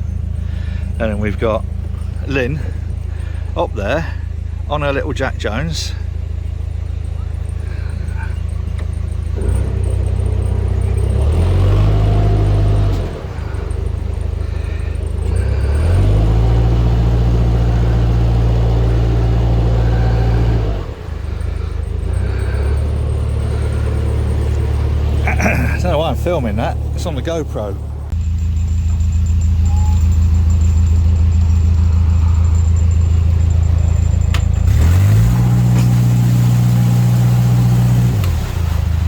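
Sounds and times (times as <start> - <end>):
diesel boat engine revving: 0.0 - 39.0.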